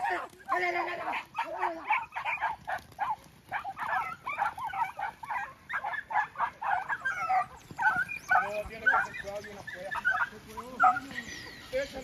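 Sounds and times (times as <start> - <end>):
dogs yelping and barking: 0.0 - 12.0.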